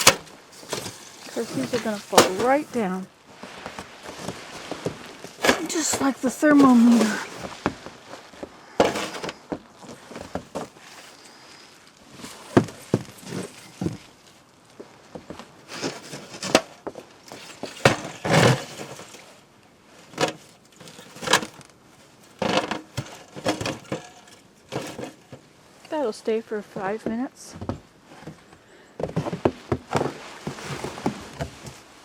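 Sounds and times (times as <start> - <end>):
objects handled by hand: 0.0 - 25.9, 26.7 - 32.0.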